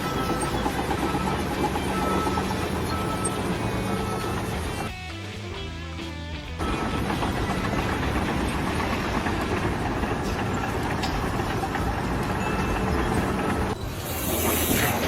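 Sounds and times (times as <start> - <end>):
machinery running with low rumble: 0.0 - 15.0.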